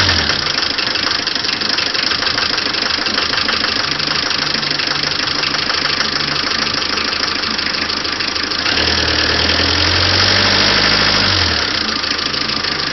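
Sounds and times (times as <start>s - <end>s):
diesel engine idling with knock: 0.0s - 12.9s.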